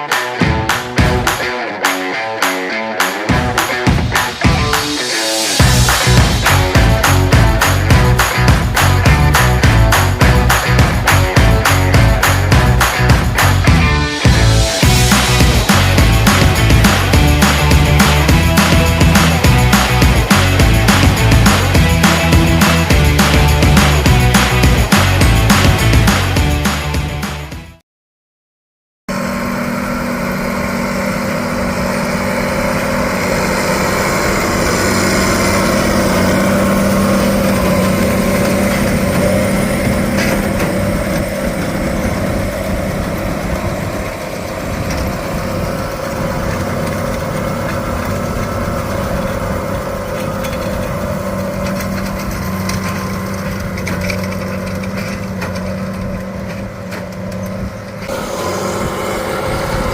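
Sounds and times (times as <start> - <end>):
hay baler engine running: 3.2 - 27.6, 29.1 - 59.9.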